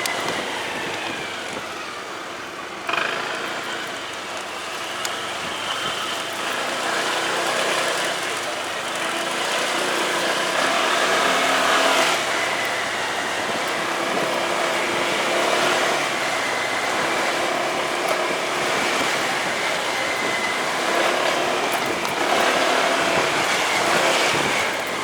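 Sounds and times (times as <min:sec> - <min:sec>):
motorcycle engine and road noise: 0:00.0 - 0:25.0.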